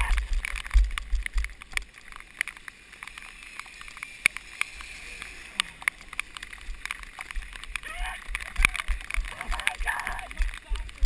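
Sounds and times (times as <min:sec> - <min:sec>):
steady hiss with sharp ticks: 0:00.0 - 0:11.0.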